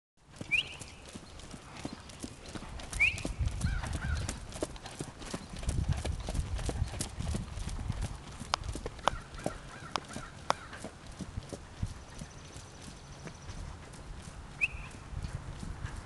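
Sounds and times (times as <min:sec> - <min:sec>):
horse hoofbeats on dirt: 0:00.2 - 0:16.0.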